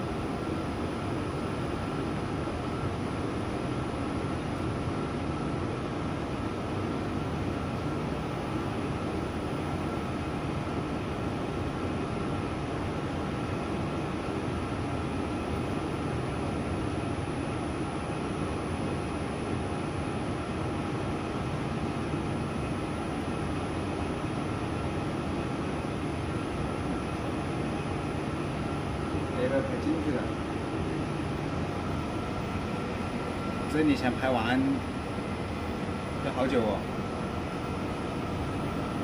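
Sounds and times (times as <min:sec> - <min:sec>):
machine humming: 0:00.0 - 0:39.0.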